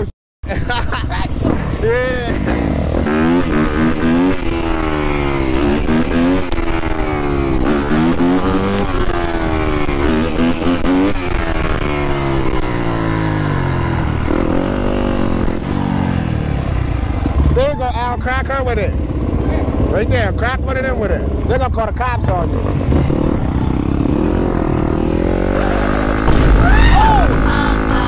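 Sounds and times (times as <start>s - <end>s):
dirt bike engine revving: 1.4s - 21.6s, 22.3s - 28.0s.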